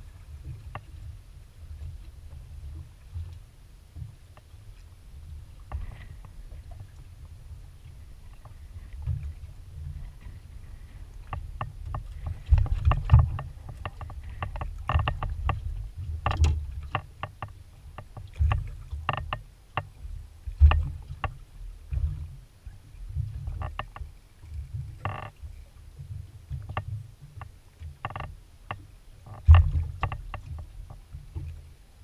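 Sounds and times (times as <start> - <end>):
water slapping boat hull: 0.0 - 32.0.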